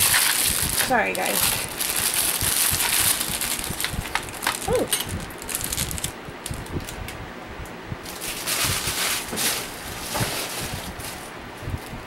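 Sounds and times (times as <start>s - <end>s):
packaging rustling: 0.0s - 7.0s, 8.1s - 11.9s
electric fan running: 0.0s - 12.0s.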